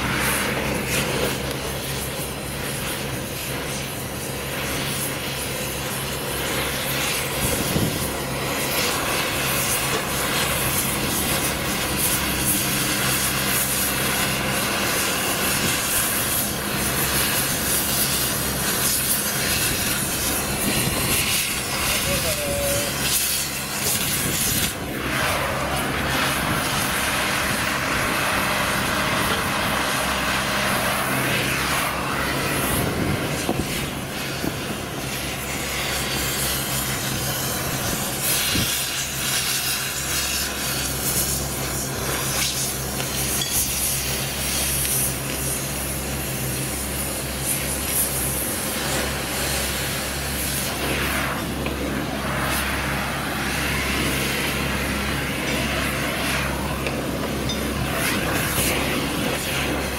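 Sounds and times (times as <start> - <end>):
cutting torch hissing: 0.0 - 59.9.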